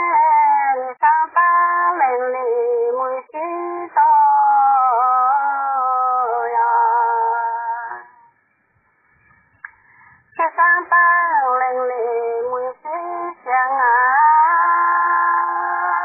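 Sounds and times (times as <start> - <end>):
person singing unaccompanied: 0.0 - 8.4, 10.3 - 16.0.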